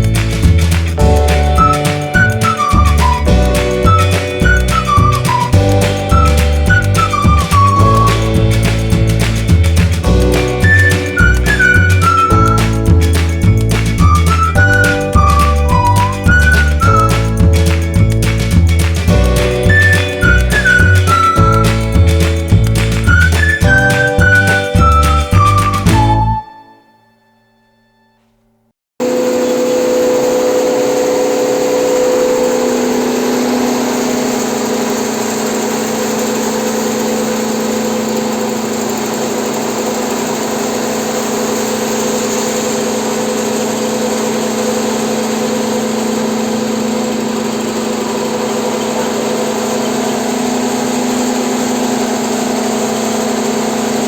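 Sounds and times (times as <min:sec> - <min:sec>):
pulverizer motor humming: 0:00.0 - 0:26.4, 0:29.0 - 0:54.0.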